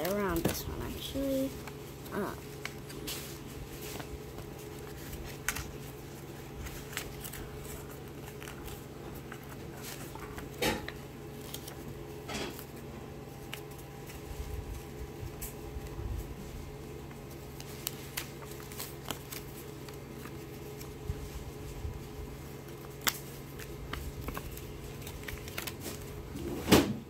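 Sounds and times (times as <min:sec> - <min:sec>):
paper rustling: 0:00.0 - 0:26.8
steady low hum: 0:00.0 - 0:27.0.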